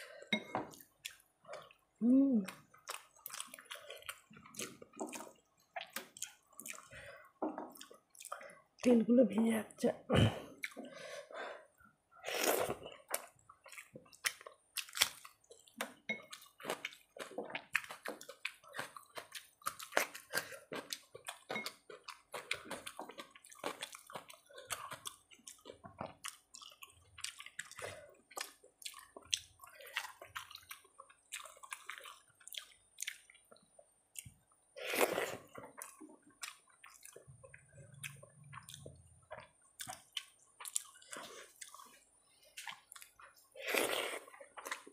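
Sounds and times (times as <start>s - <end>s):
chewing: 0.7s - 7.1s, 12.6s - 34.4s, 35.0s - 44.9s.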